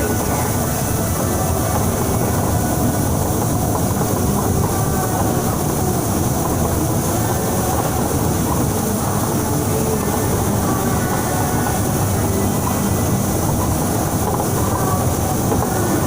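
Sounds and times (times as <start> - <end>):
bus engine and tyres rumbling: 0.0 - 16.0
heavy rain hissing: 0.0 - 16.0.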